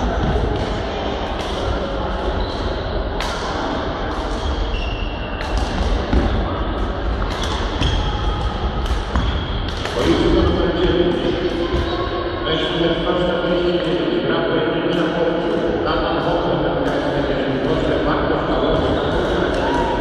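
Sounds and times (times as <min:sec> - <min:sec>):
background voices in a hall: 0:00.0 - 0:20.0.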